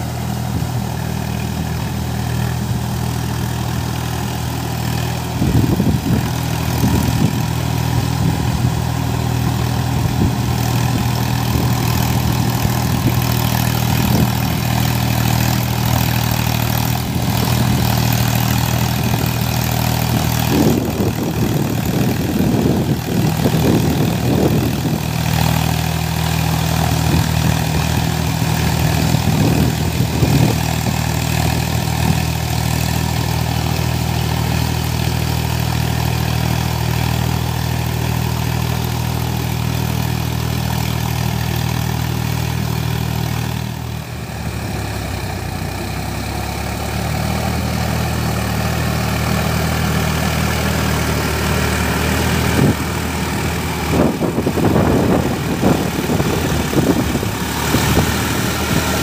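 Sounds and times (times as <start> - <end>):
rotavator churning mud: 0.0 - 59.0
tractor diesel engine droning: 0.0 - 59.0.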